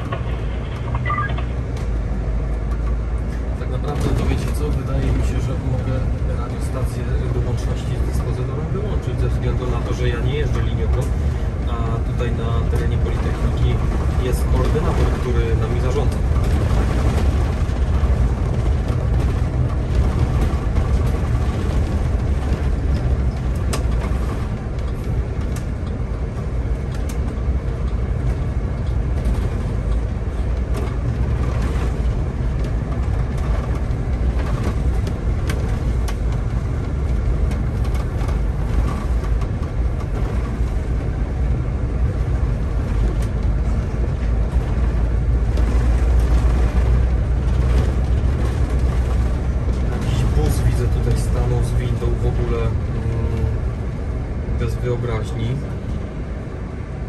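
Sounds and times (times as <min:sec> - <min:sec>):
light clicks and rattles: 0:00.0 - 0:53.6
bus engine and road rumble: 0:00.0 - 0:57.0.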